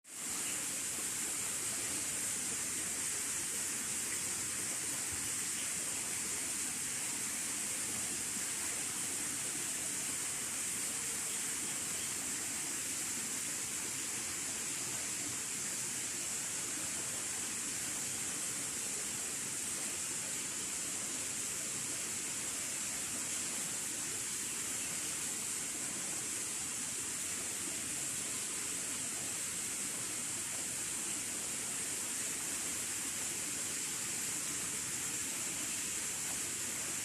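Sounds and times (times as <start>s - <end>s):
steady high-pitched hiss: 0.0s - 37.0s.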